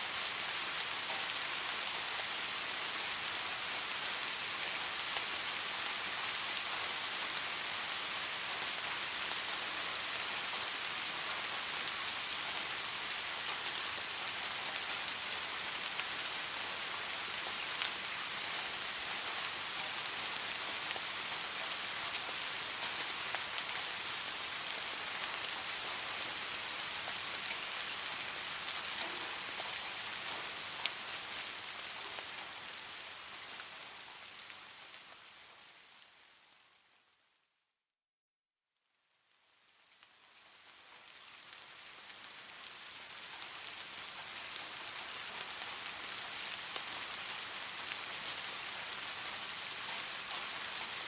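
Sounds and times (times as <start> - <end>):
steady rain: 0.0 - 37.4, 38.8 - 51.0.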